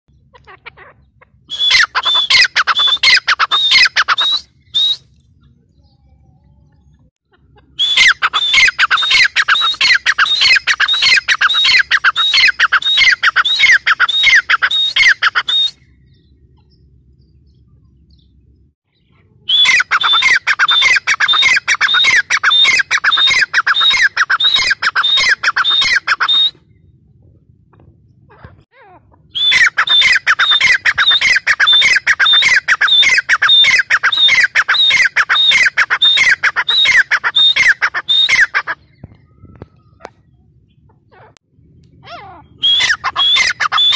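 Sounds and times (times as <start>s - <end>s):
francolin calling: 0.1s - 26.8s, 28.4s - 41.4s, 42.0s - 43.9s.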